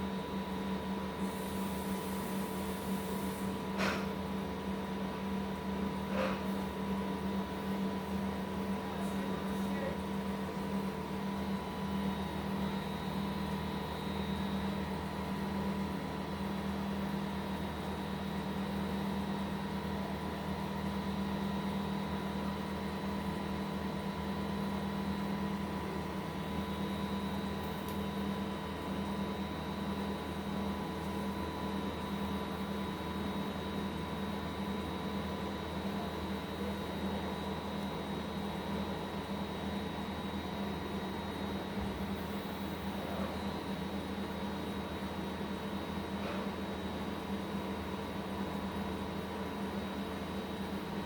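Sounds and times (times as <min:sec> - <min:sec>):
oven fan hum: 0:00.0 - 0:51.0.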